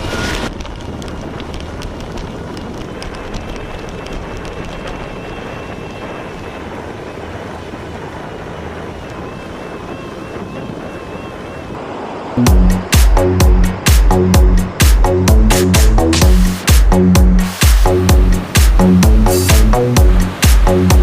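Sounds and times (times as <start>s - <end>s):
surf rushing: 0.0s - 21.0s
wind buffeting microphone: 0.0s - 21.0s.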